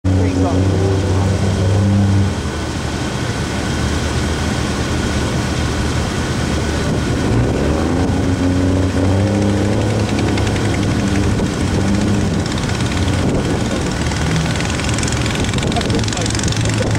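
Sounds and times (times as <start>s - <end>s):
diesel truck engine under load: 0.0s - 16.9s.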